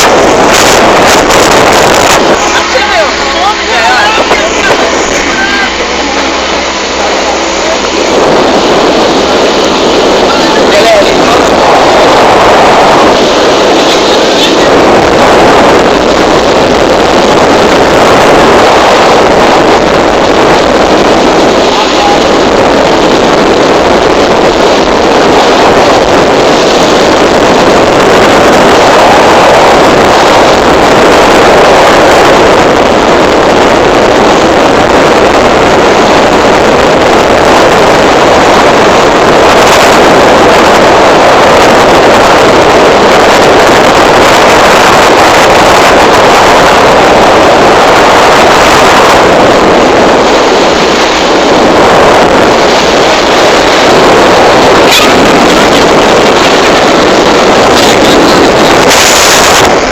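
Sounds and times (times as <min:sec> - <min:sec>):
motorboat engine running: 0:00.0 - 0:59.9
water rushing past hull: 0:00.0 - 0:59.9
wind on microphone: 0:00.0 - 0:59.9.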